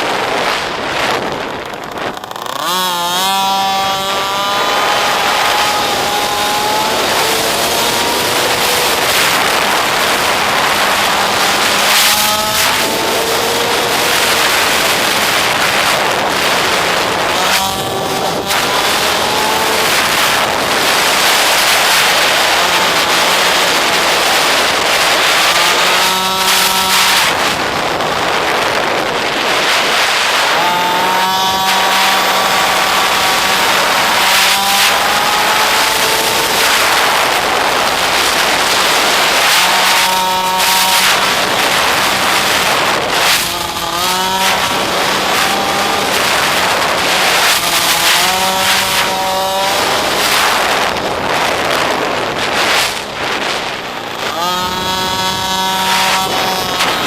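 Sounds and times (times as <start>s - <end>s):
loud steady rushing noise: 0.0s - 57.0s
small motorbike engine revving: 0.0s - 57.0s.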